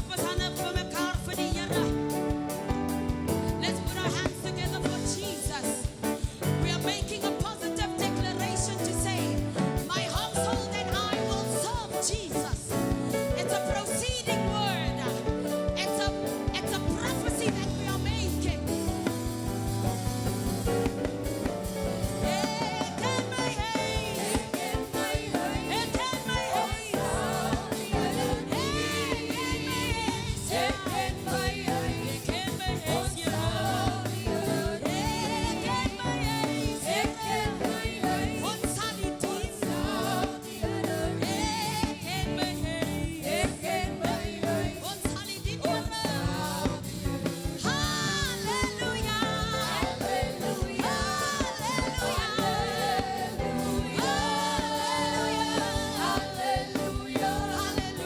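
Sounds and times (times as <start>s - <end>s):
band with drums playing: 0.0s - 58.0s
people singing: 0.0s - 58.0s.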